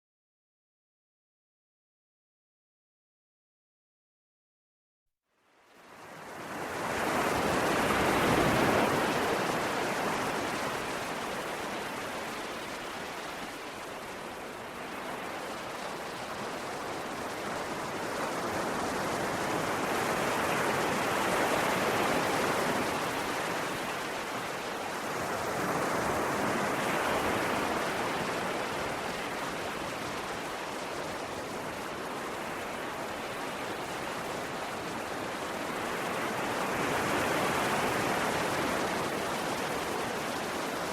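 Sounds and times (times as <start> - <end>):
ocean waves washing ashore: 5.4 - 40.9.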